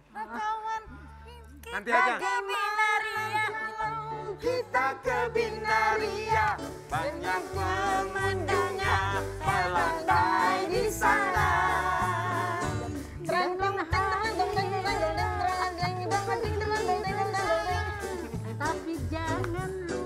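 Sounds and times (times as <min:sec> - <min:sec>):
person singing with vibrato: 0:00.0 - 0:20.0
live band with bass and keyboard: 0:02.9 - 0:20.0.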